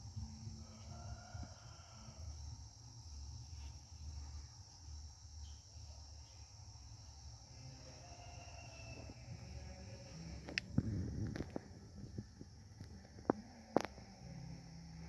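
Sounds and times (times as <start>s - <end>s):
crickets chirping: 0.0s - 15.0s
low uneven hum: 0.0s - 15.0s.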